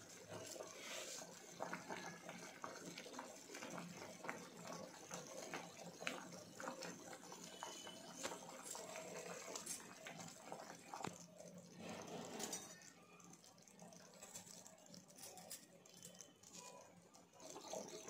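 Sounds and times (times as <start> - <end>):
thick gravy bubbling in a pot: 0.0 - 18.0.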